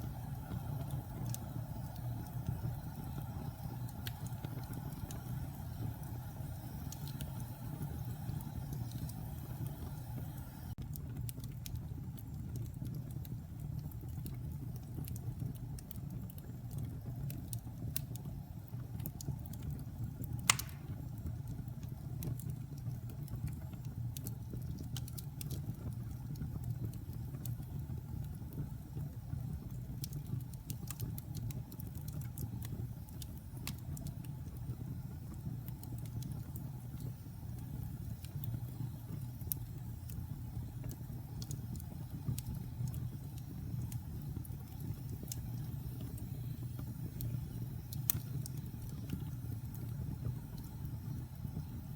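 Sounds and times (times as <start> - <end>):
fire crackles and pops: 0.0 - 51.9
logs burning with low rumble: 0.0 - 51.9.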